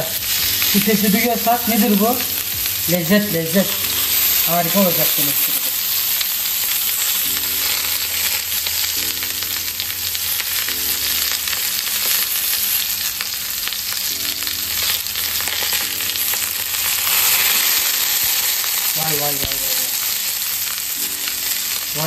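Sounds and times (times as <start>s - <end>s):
vegetables sizzling on grill pan: 0.0s - 22.0s.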